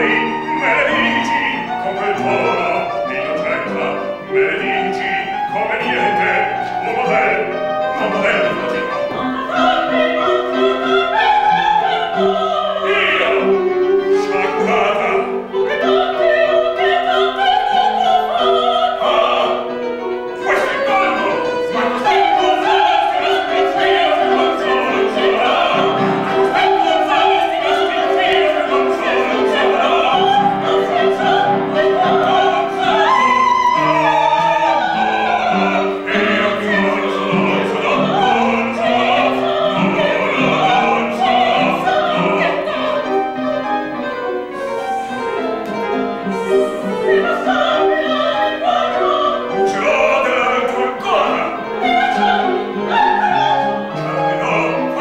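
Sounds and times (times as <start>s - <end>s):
operatic singing: 0.0s - 55.0s
piano repeated notes: 0.0s - 55.0s.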